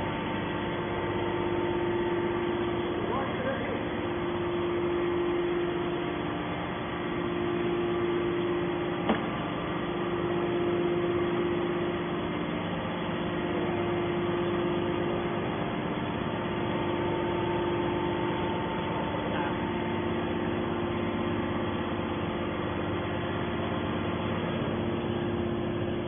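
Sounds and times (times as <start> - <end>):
hydraulic power unit humming: 0.0 - 26.0.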